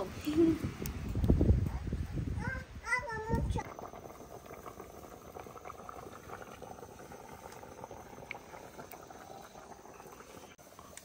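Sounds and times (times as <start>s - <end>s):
water boiling with small pops: 0.0s - 1.7s, 3.2s - 11.0s.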